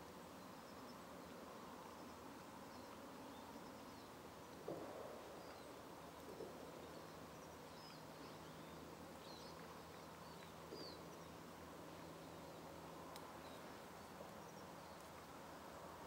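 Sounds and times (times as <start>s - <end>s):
faint low steady hum: 0.0s - 16.0s.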